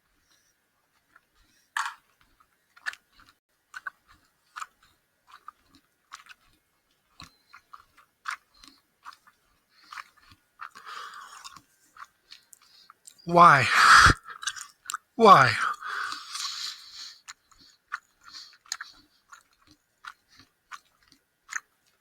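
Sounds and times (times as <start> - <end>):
person chewing gummy candy: 0.2 - 22.0.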